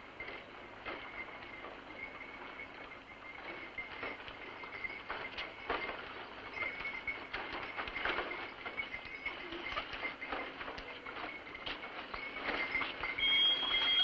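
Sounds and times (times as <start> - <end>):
faint steady high tone: 0.0 - 14.0
hooves and cart wheels on cobblestones: 0.0 - 14.0.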